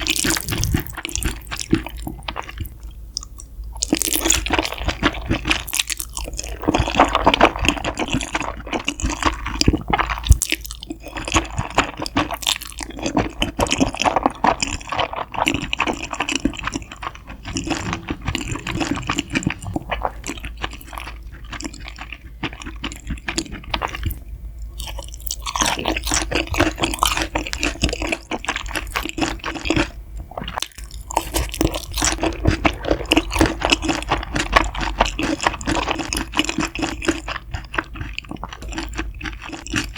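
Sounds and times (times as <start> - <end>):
crunchy wet chewing: 0.0 - 39.9.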